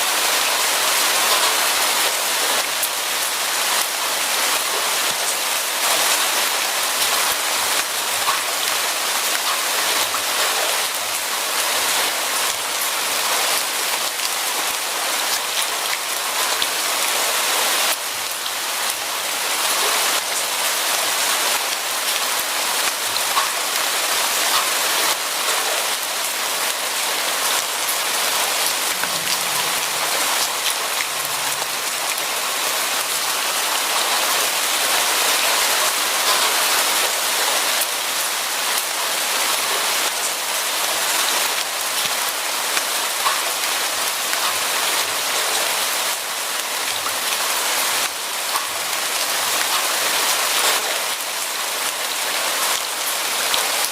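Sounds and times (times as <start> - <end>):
steady rain hiss: 0.0 - 53.9
raindrops ticking on a surface: 0.3 - 53.9.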